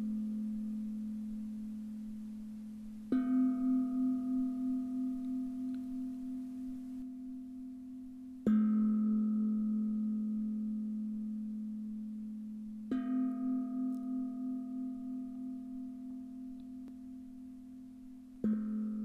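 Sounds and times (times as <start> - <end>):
singing bowls ringing: 0.0 - 16.5.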